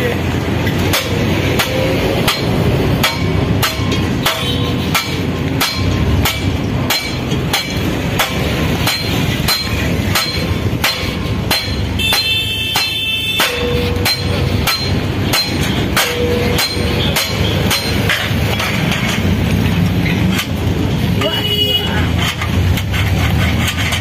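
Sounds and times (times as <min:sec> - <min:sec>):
hammer on metal: 0:00.0 - 0:24.0.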